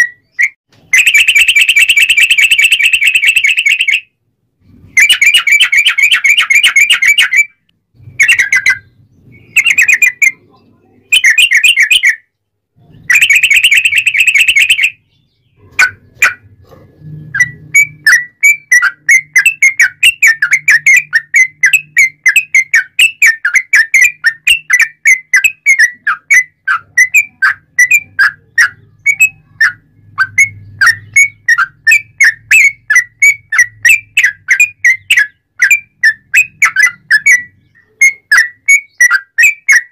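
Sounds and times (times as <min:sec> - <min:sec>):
bird sharp chirps: 0:00.0 - 0:39.9
bird trilling: 0:00.0 - 0:39.9.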